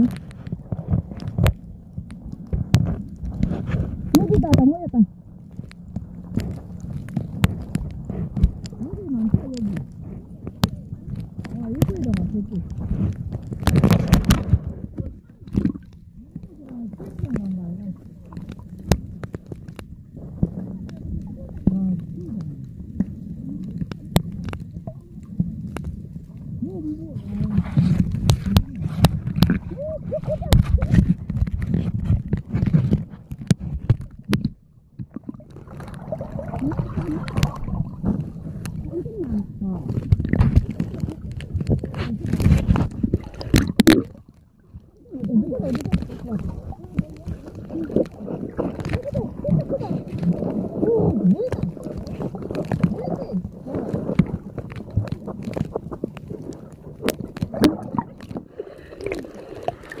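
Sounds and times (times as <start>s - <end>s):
muffled underwater rumble: 0.0s - 60.0s
sharp underwater clicks and knocks: 0.0s - 60.0s.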